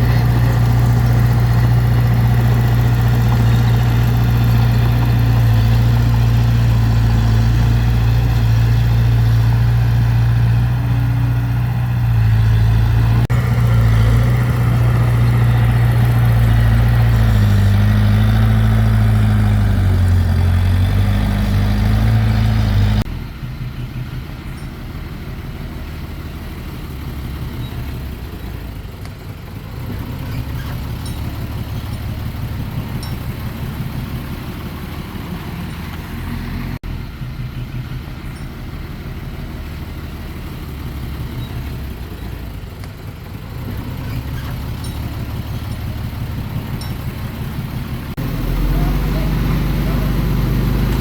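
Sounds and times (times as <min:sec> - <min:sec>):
heavy diesel engine rumbling: 0:00.0 - 0:51.0.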